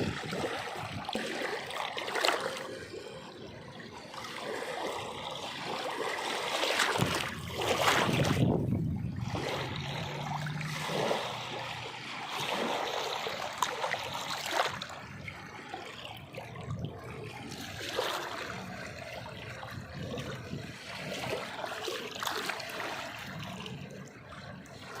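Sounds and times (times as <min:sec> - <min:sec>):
water splashing and sloshing: 0:00.0 - 0:25.0
water trickling and gurgling: 0:00.0 - 0:25.0.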